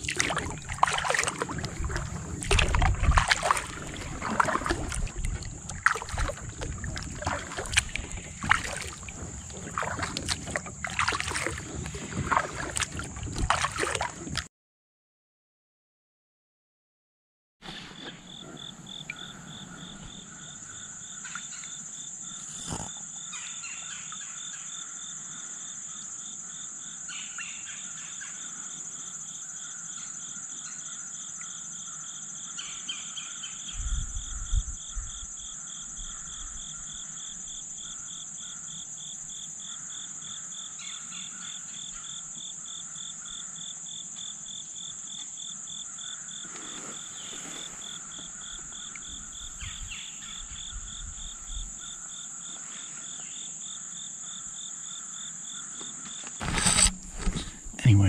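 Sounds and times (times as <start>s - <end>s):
insects buzzing and chirping: 0.0s - 14.4s, 17.7s - 58.0s.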